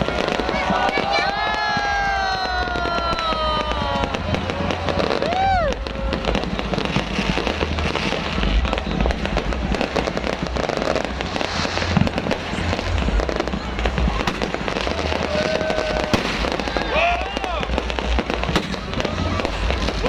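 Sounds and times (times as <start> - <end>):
firework whistle: 0.0 - 20.0
fireworks crackling: 0.0 - 20.0
low booming: 0.0 - 20.0.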